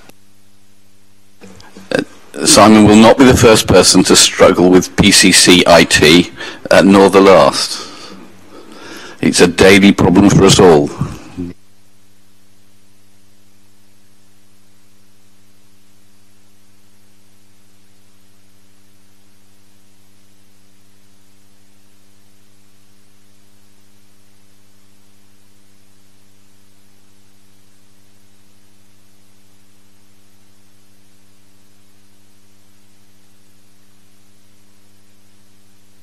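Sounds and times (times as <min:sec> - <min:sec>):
constant hiss: 0:00.0 - 0:36.0
steady electrical hum: 0:00.0 - 0:36.0.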